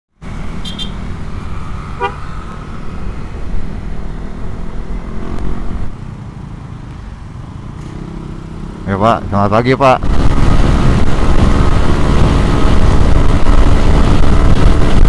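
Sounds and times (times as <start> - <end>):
scooter engine and road rumble: 0.2 - 15.0.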